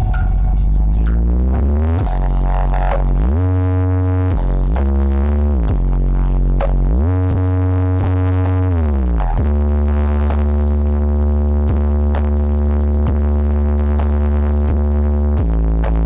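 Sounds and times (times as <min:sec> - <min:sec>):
bass-heavy electronic dance music: 0:00.0 - 0:16.0.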